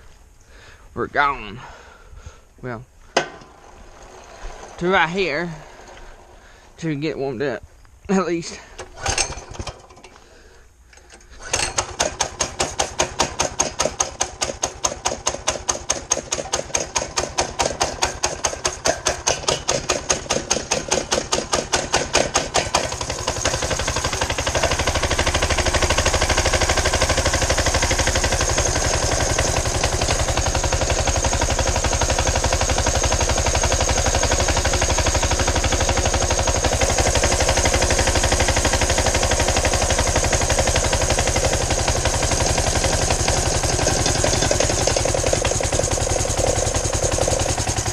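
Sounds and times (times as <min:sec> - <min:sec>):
small engine starting and running: 0:03.3 - 0:06.8, 0:08.5 - 0:47.9.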